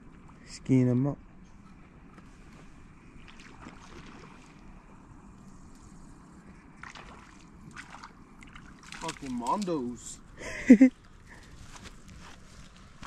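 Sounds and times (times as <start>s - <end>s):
wind: 0.0s - 13.0s
small waves lapping: 1.9s - 13.0s.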